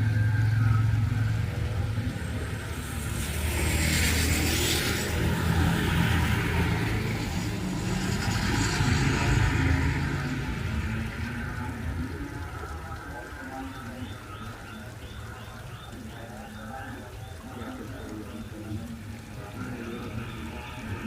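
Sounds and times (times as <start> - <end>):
vehicle passing on wet road: 0.0 - 21.0.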